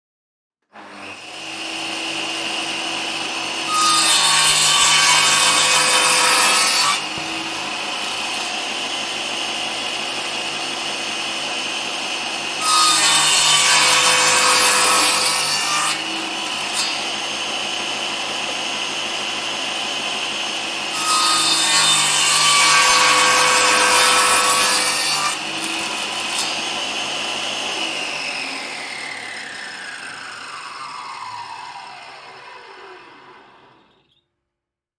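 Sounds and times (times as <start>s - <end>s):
saw cutting through timber: 0.7s - 34.0s
circular saw whining: 1.1s - 34.3s.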